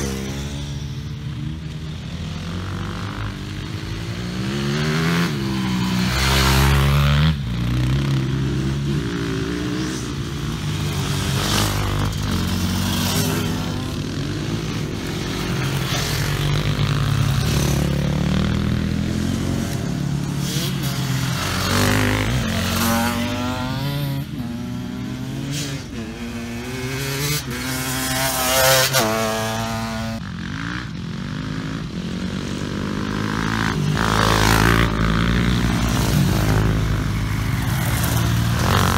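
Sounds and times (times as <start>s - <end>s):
motorcycles revving past: 0.0s - 38.9s.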